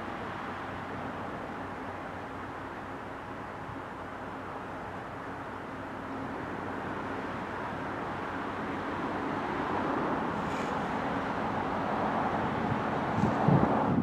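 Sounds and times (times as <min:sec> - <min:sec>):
diesel locomotive engine rumble: 0:00.0 - 0:14.0.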